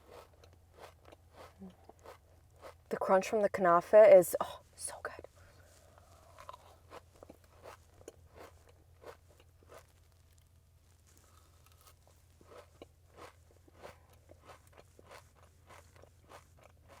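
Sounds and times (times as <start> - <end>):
chewing crunchy pastry: 0.0 - 2.9, 5.2 - 17.0.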